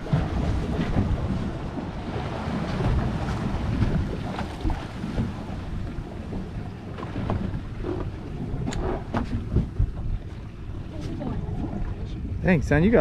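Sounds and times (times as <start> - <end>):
water rumbling around boat: 0.0 - 13.0
wind buffeting microphone: 0.0 - 13.0.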